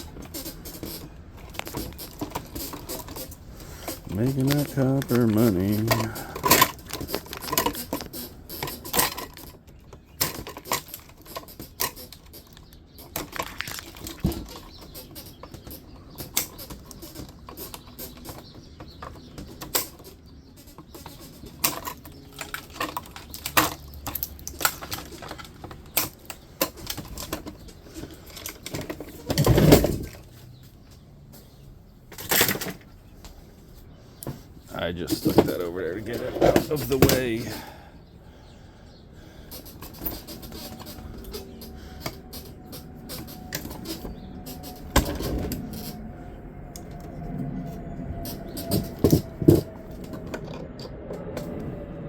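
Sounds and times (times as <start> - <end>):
hand tools clicking and clattering: 0.0 - 30.6, 32.1 - 32.9, 34.2 - 38.6, 39.3 - 46.0, 48.2 - 51.6.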